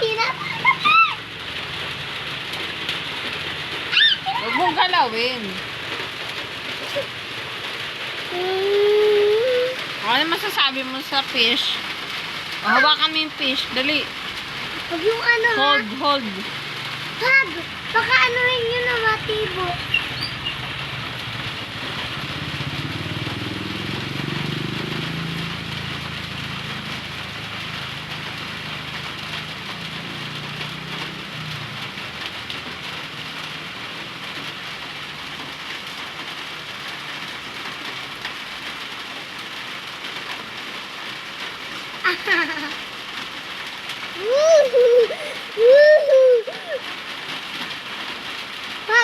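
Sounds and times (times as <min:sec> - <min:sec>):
falling water hiss: 0:00.0 - 0:49.0.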